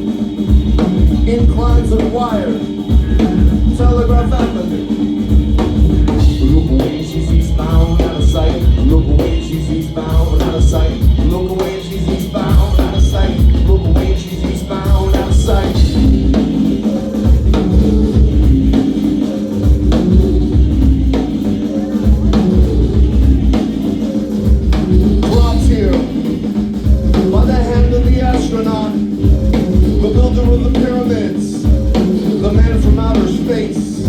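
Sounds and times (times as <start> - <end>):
drum kit steady beat: 0.0 - 34.0
heavy low bass line: 0.0 - 34.0
live band playing instrumental: 0.0 - 34.0.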